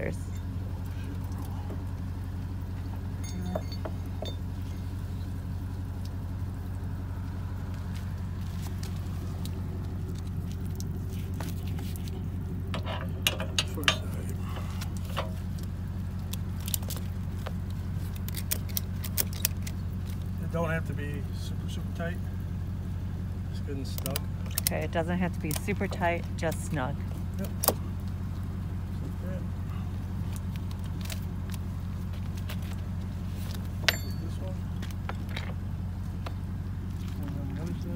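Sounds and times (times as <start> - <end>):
vehicle engine idling: 0.0 - 37.9.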